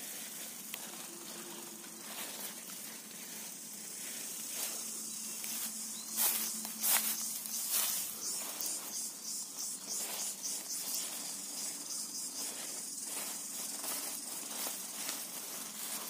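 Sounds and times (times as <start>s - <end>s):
high-pitched insect chorus: 0.0s - 16.0s
rustling of leaves and straw: 0.0s - 16.0s.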